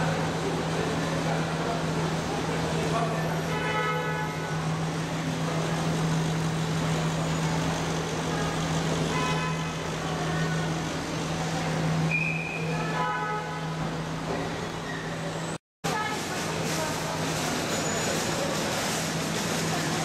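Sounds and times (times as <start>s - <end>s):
street traffic ambience: 0.0s - 20.0s.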